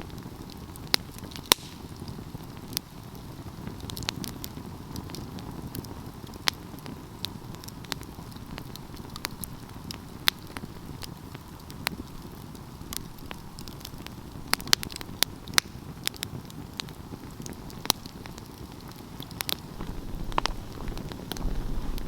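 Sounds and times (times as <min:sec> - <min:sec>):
burning logs crackling and popping: 0:00.0 - 0:22.0
fire rumbling: 0:00.0 - 0:22.0.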